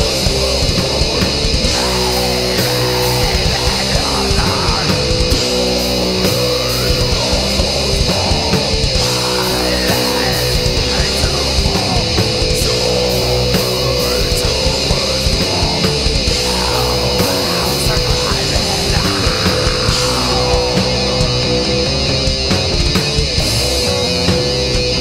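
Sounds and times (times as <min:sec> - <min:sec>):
heavy metal music: 0:00.0 - 0:25.0.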